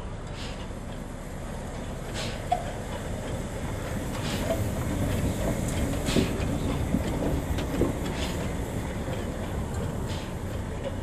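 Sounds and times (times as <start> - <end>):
steam locomotive rumbling: 0.0 - 11.0
wheels clanking: 0.0 - 11.0.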